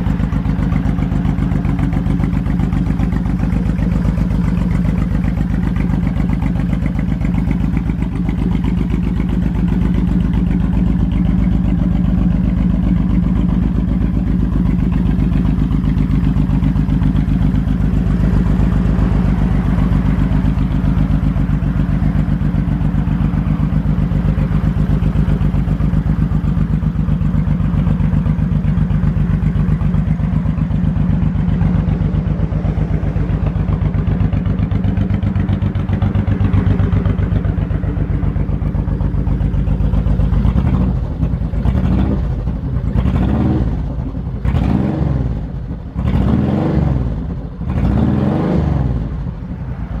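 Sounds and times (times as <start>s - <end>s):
motorcycle engine idling: 0.0s - 50.0s.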